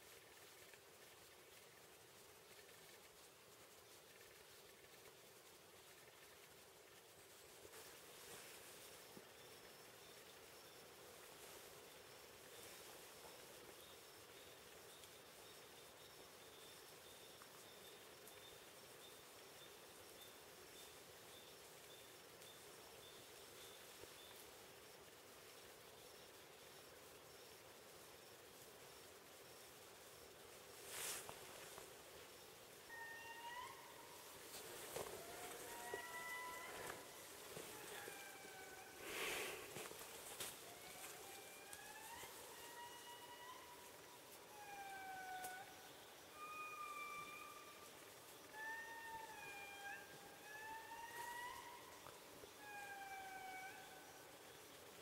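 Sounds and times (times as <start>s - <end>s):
low hiss: 0.0s - 55.0s.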